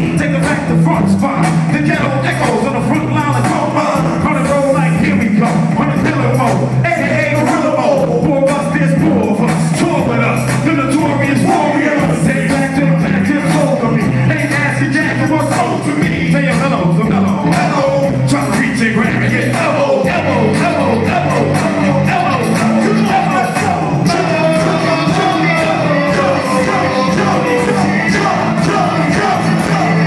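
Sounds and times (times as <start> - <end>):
hip-hop bass line and drum beat: 0.0 - 30.0
voices over music: 0.0 - 30.0.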